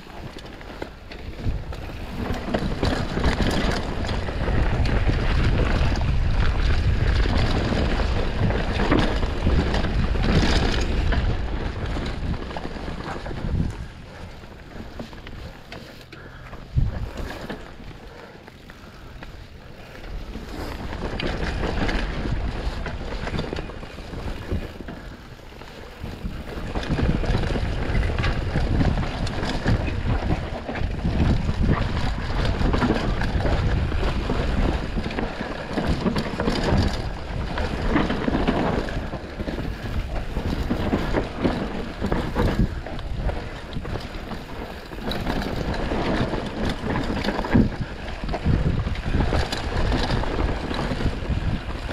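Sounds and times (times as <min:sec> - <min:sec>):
bike rattling: 0:00.0 - 0:51.9
bike tyres rumbling over dirt: 0:00.0 - 0:51.9
wind buffeting microphone: 0:00.0 - 0:51.9.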